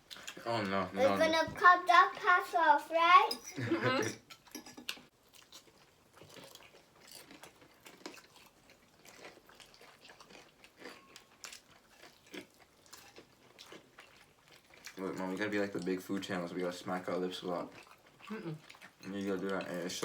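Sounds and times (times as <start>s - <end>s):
chewing and crunching: 0.0s - 1.3s, 4.3s - 20.0s.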